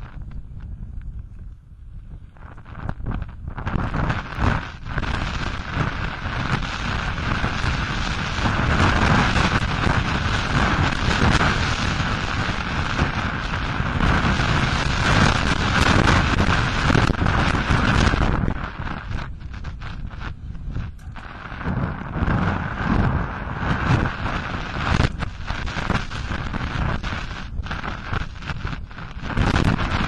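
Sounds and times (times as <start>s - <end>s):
bike tyre rumble: 0.0s - 30.0s
wind buffeting microphone: 0.0s - 30.0s.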